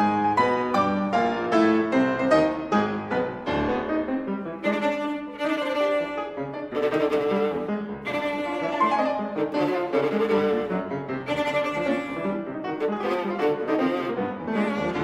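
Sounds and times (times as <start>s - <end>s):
piano chords: 0.0s - 15.0s
viola: 0.0s - 15.0s.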